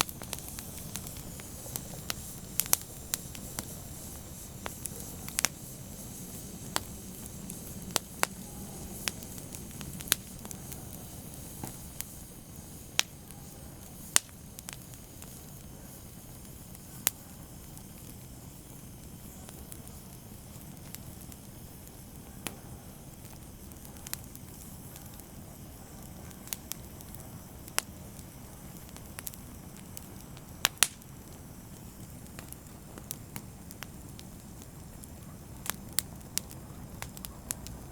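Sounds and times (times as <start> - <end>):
fire crackling and popping: 0.0 - 37.9.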